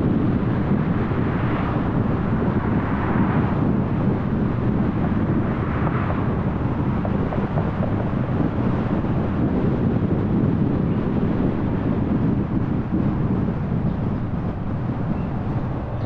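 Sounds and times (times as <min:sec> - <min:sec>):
engine rumble: 0:00.0 - 0:16.0
tyre and road noise: 0:00.0 - 0:16.0
wind noise: 0:00.0 - 0:16.0.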